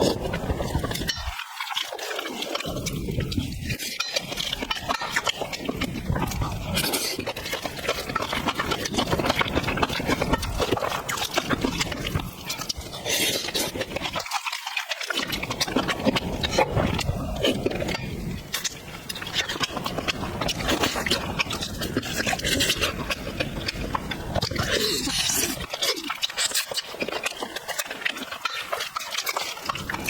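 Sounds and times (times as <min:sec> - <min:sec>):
wet chewing and lip-smacking: 0:00.0 - 0:30.0.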